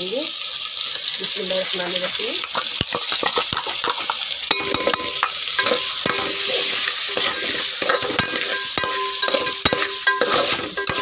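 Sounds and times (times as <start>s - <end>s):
chicken sizzling in hot oil: 0.0s - 11.0s
metal spoon scraping a pot: 1.8s - 11.0s.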